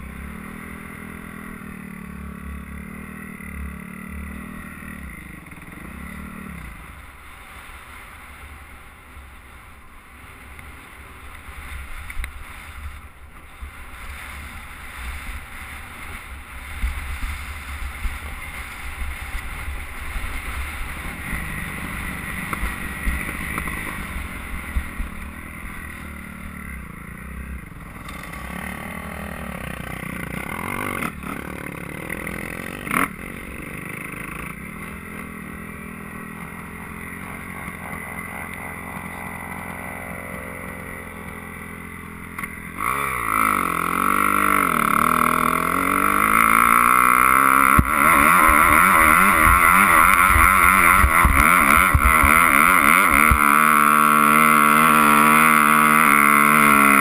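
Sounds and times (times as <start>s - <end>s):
dirt bike engine revving: 0.0s - 7.3s, 14.0s - 57.0s.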